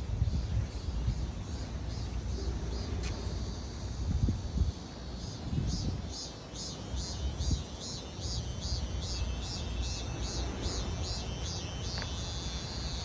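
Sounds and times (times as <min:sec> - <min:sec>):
cicada buzzing: 0:00.0 - 0:13.0
low wind rumble on microphone: 0:00.0 - 0:13.0.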